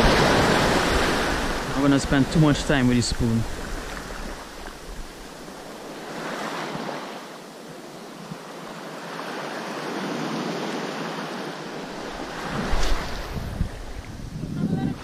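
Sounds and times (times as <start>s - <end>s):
small waves washing in surf: 0.0s - 15.0s.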